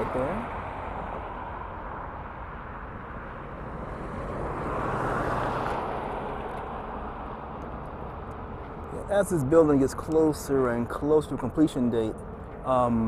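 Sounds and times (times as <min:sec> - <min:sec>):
traffic rumble: 0:00.0 - 0:13.0
vehicle passing: 0:00.0 - 0:13.0.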